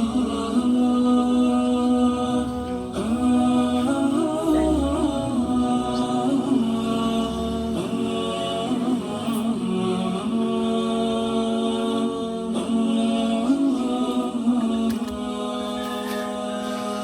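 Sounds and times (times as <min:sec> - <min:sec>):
person chanting unaccompanied: 0:00.0 - 0:17.0.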